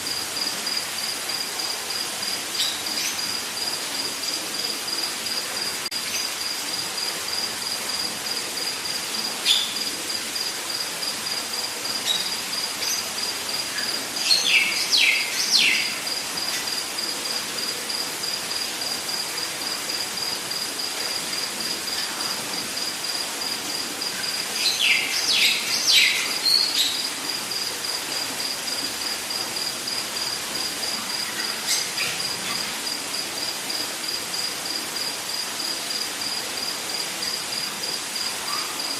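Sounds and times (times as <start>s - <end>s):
constant hiss: 0.0s - 38.9s
pulsing insect trill: 0.0s - 38.9s.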